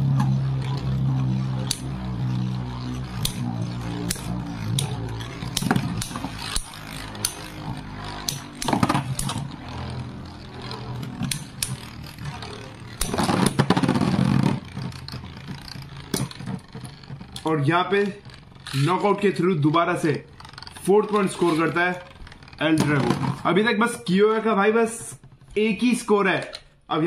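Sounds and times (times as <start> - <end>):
spinning tops humming: 0.0 - 26.5
spinning tops grinding: 0.0 - 26.6
spinning tops clacking together: 1.6 - 26.7.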